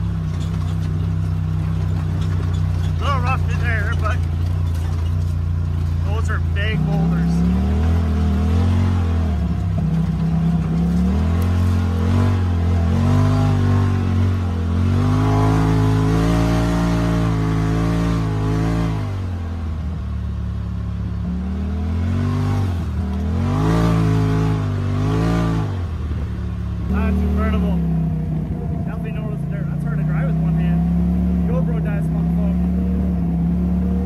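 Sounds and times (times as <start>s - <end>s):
engine revving: 0.0s - 34.0s.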